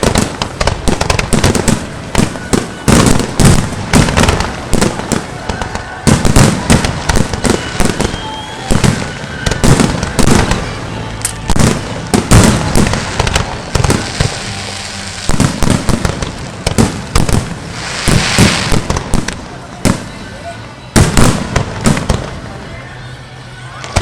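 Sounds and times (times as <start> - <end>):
firework bangs: 0.0 - 22.8, 23.6 - 24.0
firework crackling: 0.0 - 24.0.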